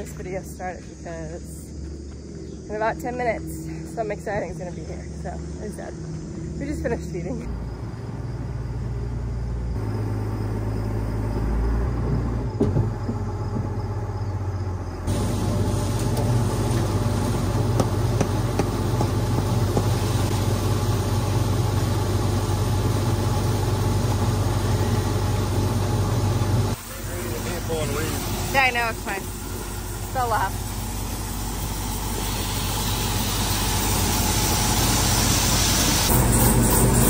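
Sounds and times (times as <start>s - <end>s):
vehicle engine humming: 0.0s - 37.0s
engine rattle: 2.8s - 37.0s.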